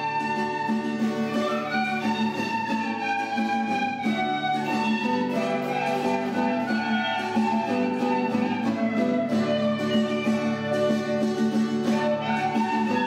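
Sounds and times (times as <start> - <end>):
recorders playing a melody: 0.0 - 13.0.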